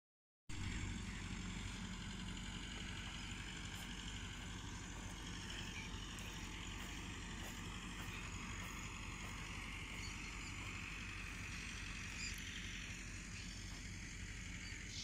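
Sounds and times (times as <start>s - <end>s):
tractor diesel engine running: 0.5s - 15.0s.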